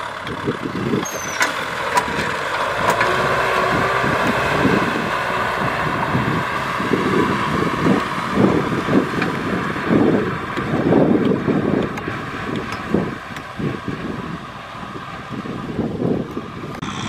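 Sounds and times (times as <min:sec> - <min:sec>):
tractor diesel engine running: 0:00.0 - 0:17.0
wind buffeting microphone: 0:00.2 - 0:17.0.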